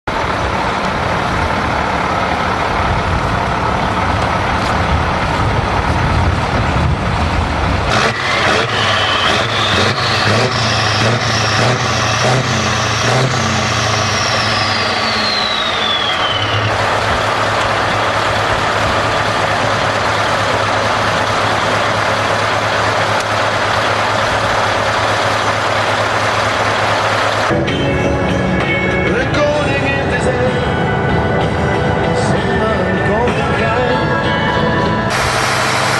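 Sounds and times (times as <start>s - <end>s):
truck engine deep rumble: 0.0s - 35.9s.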